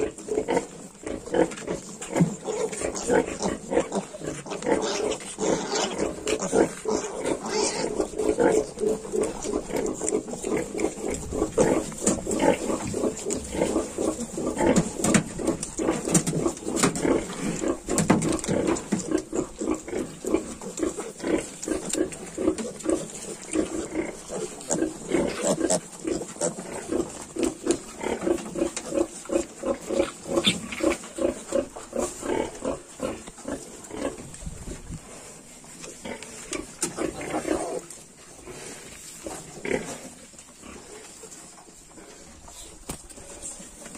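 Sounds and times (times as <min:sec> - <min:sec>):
pigs grunting: 0:00.0 - 0:34.3, 0:35.8 - 0:41.1.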